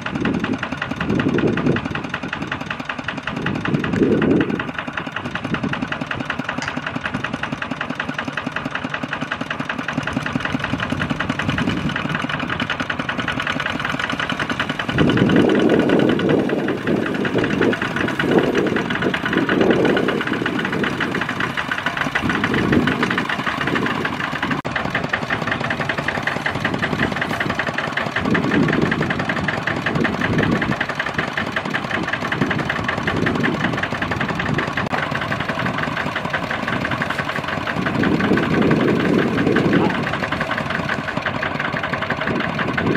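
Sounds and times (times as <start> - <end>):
diesel tractor engines chugging: 0.0 - 42.9.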